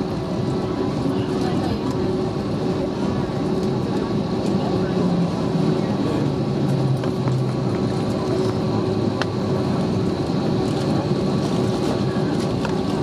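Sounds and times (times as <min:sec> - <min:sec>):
jet engines humming with whine: 0:00.0 - 0:13.0.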